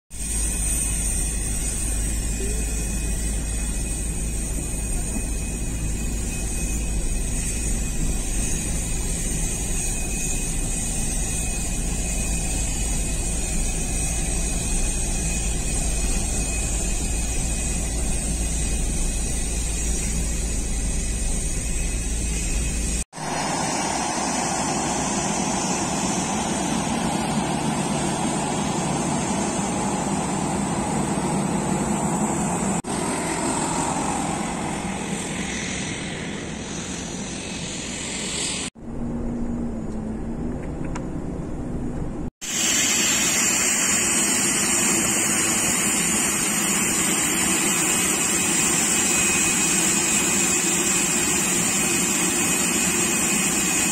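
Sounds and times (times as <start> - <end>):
business jet engines roaring: 0.2 - 53.9
distant jet airliner roar: 0.2 - 53.9.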